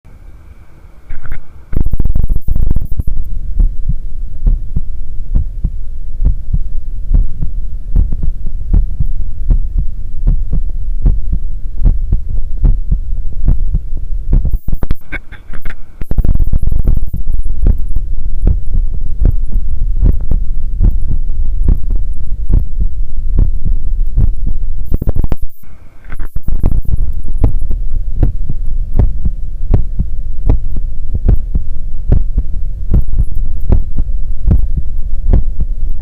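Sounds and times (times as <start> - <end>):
heartbeat thumps: 1.2 - 25.6, 26.2 - 36.0.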